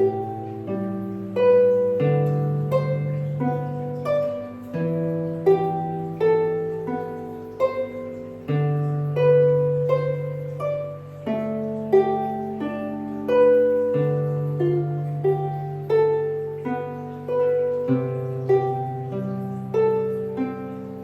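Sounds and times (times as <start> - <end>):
harp plucked notes: 0.0 - 21.0.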